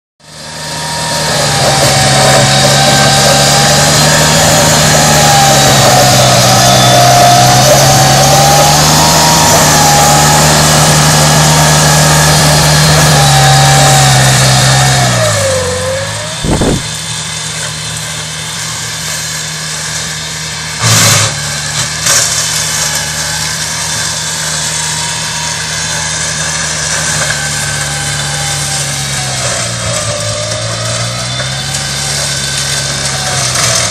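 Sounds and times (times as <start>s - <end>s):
ride-on mower engine running: 0.2s - 33.9s.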